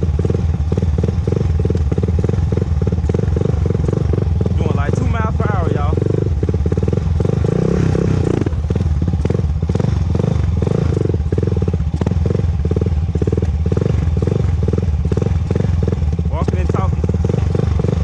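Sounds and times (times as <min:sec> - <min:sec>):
atv engine running at low speed: 0:00.0 - 0:18.0.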